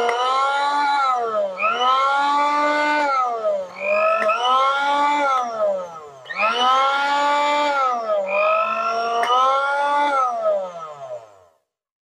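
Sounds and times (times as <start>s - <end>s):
blender motor whining: 0.0s - 11.5s.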